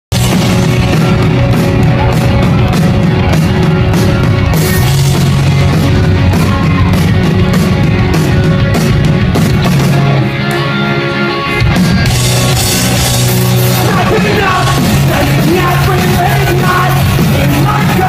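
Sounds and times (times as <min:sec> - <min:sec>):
drums fast beat: 0:00.1 - 0:10.3, 0:11.6 - 0:18.0
bass guitar: 0:00.1 - 0:18.0
distorted electric guitars: 0:00.1 - 0:18.0.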